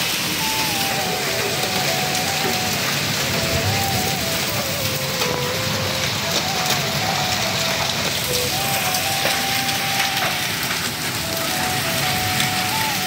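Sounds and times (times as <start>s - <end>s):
background music melody: 0.0s - 13.0s
heavy rain on pavement: 0.0s - 13.0s.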